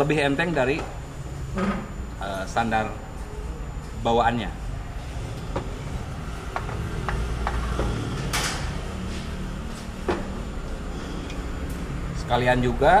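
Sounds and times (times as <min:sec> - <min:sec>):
low workshop hum: 0:00.0 - 0:13.0.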